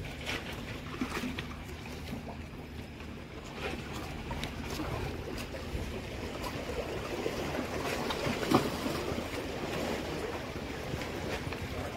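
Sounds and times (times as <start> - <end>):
water lapping against rocks: 0.0 - 11.9.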